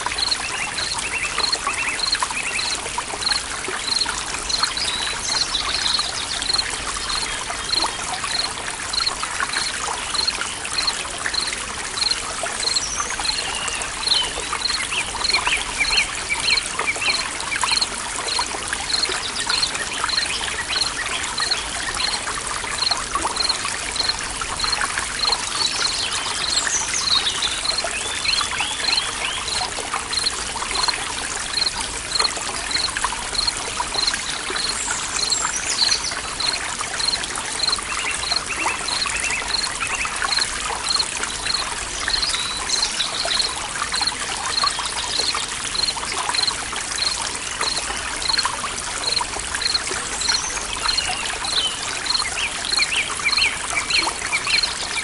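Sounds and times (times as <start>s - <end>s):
stream water babbling: 0.0s - 55.0s.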